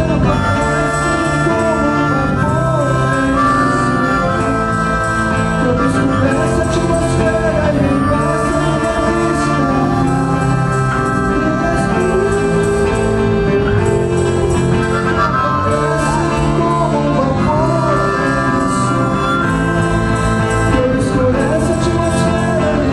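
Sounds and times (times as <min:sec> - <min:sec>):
live band playing: 0:00.0 - 0:22.9
person singing: 0:00.0 - 0:22.9.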